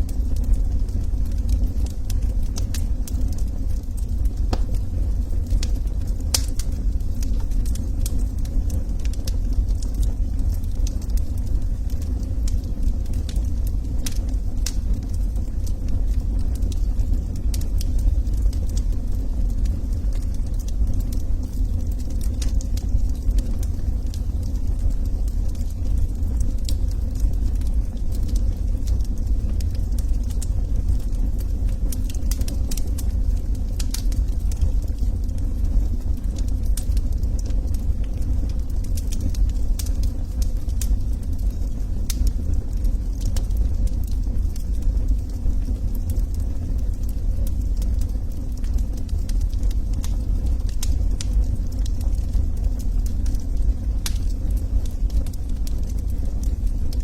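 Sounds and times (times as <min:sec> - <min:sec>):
fire flames rumbling: 0:00.0 - 0:57.0
logs crackling and popping: 0:00.0 - 0:57.0.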